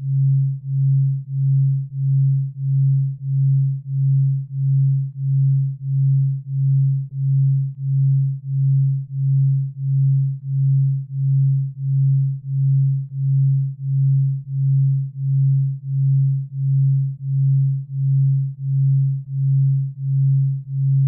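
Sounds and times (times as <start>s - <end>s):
low pulsing sine tone: 0.0s - 21.0s.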